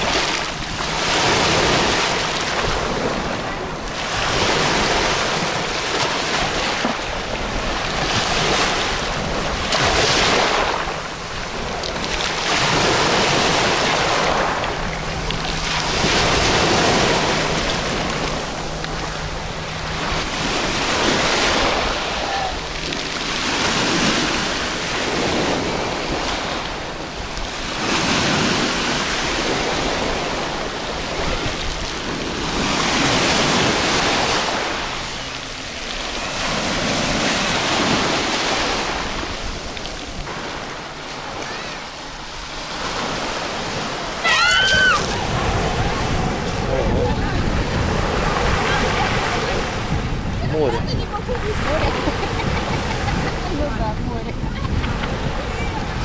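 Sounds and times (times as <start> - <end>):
waves breaking on pebble beach: 0.0 - 56.0.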